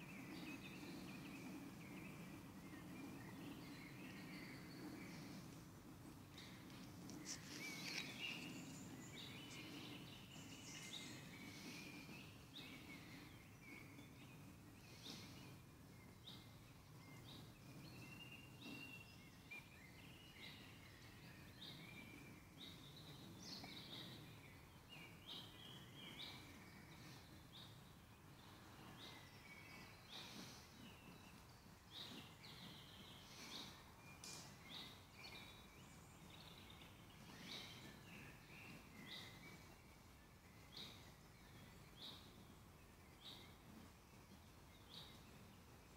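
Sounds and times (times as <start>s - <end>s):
low background noise: 0.0s - 45.9s
small birds chirping: 0.0s - 45.9s.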